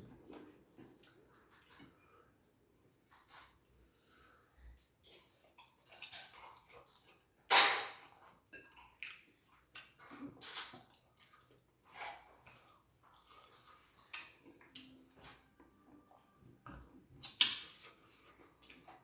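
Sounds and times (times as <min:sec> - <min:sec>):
wet chewing and smacking: 0:00.0 - 0:19.0.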